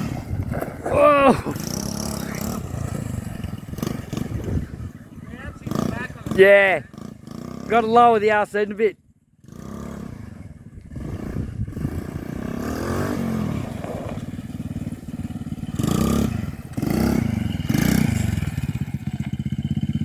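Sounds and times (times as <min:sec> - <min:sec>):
small petrol engine revving: 0:00.0 - 0:08.5, 0:09.3 - 0:20.0.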